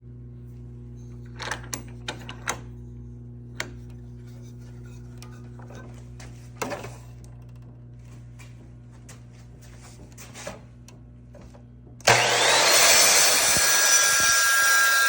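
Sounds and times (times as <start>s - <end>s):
steady hum: 0.0s - 13.8s.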